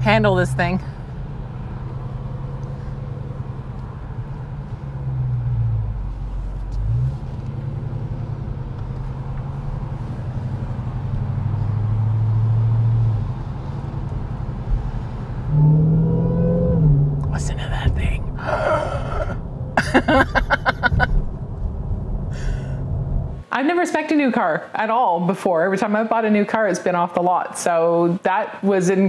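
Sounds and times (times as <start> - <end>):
car engine from inside cabin: 0.0 - 23.5.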